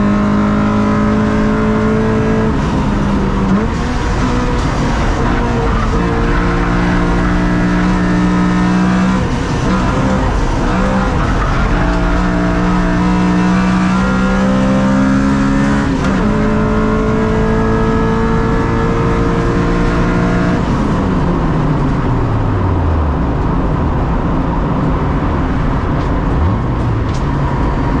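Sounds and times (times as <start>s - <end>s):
car engine revving and upshifting: 0.0s - 28.0s.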